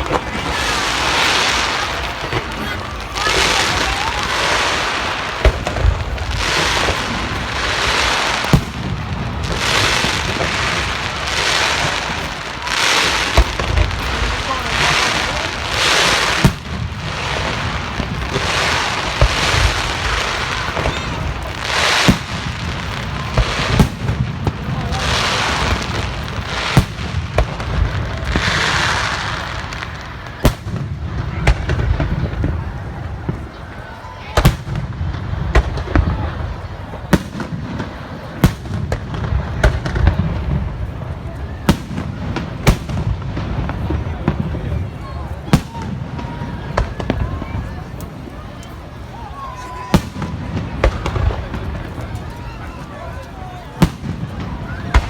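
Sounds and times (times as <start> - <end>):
fireworks bangs: 0.0 - 55.0
fireworks hissing crackle: 0.0 - 55.0.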